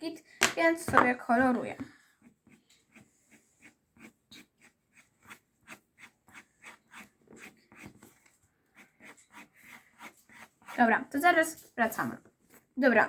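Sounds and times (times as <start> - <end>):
pencil scratching on paper: 1.3 - 13.0.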